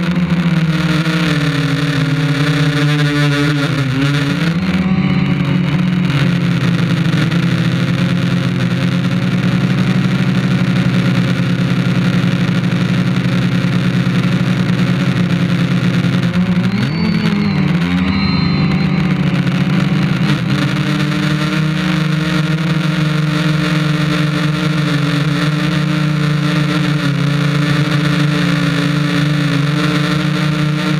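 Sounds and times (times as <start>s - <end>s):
drone motors humming: 0.0s - 30.9s.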